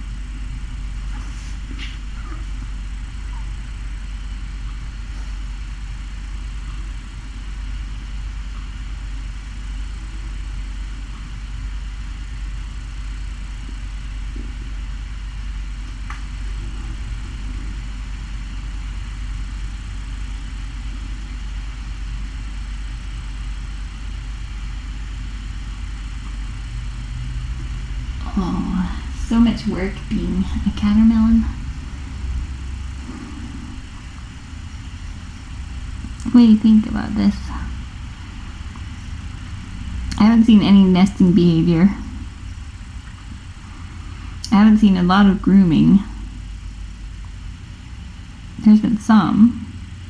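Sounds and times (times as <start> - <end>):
steady low electrical hum: 0.0 - 50.0.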